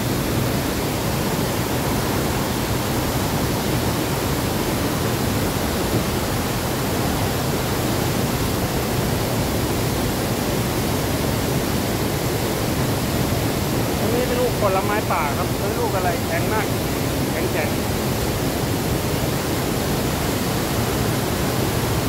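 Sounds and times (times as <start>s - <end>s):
large waterfall rushing: 0.0s - 22.0s.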